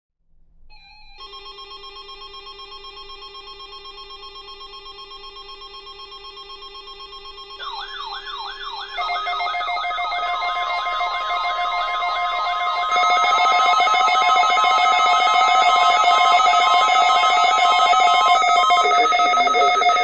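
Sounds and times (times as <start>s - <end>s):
pulsing alarm: 0.8s - 20.0s
steady electronic alarm tones: 0.8s - 20.0s
warbling siren-like alarm: 0.9s - 20.0s.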